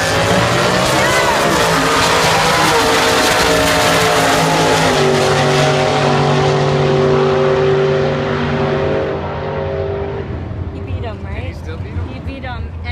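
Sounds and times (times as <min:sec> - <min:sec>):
car engine revving high: 0:00.0 - 0:12.4.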